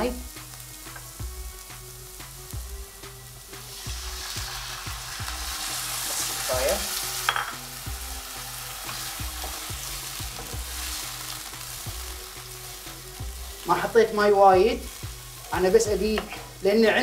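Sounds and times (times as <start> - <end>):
water sizzling in hot pan: 0.0 - 17.0.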